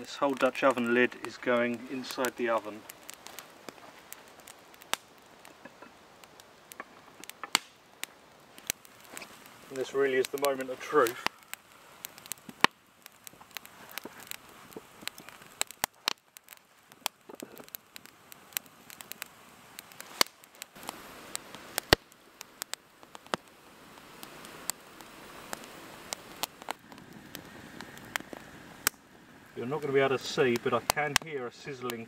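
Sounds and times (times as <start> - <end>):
faint steady hiss: 0.0 - 32.0
wood fire crackling and popping: 0.0 - 32.0.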